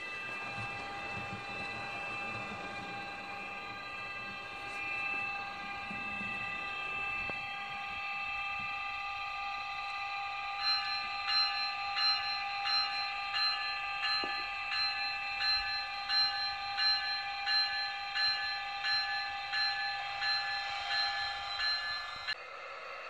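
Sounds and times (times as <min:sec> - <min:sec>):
locomotive bell ringing: 0:00.0 - 0:22.4.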